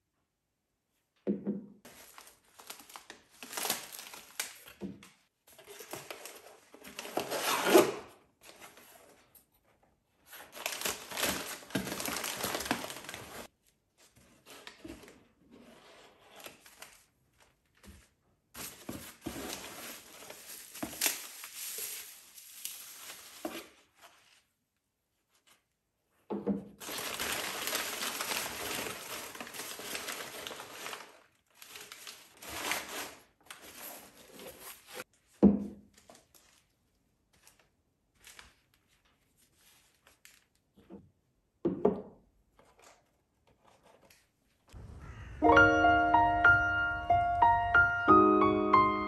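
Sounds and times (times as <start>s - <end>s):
paper crinkling and rustling: 1.9s - 25.8s, 26.8s - 40.9s, 42.5s - 44.7s.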